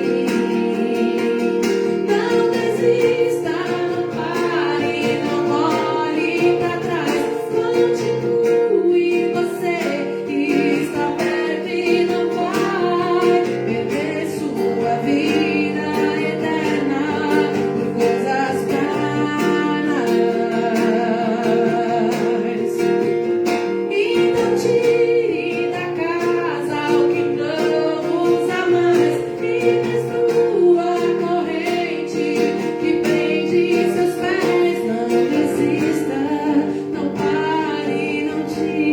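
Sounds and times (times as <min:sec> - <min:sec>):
guitar accompaniment: 0:00.0 - 0:38.9
person singing: 0:00.0 - 0:38.9.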